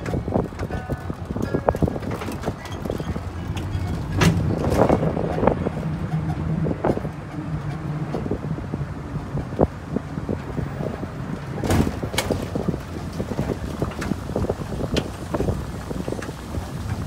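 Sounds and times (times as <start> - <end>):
vehicle body rattling: 0.0 - 17.0
vehicle motor humming: 0.0 - 17.0
wind buffeting microphone: 0.0 - 17.0.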